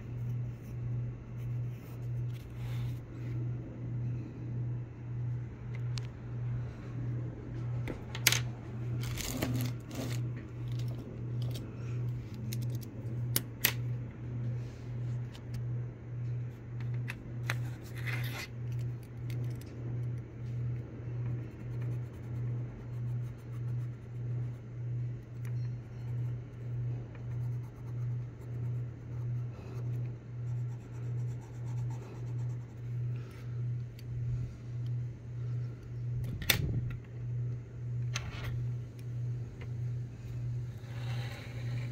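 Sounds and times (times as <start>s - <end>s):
low throbbing hum: 0.0s - 18.0s, 18.6s - 41.9s.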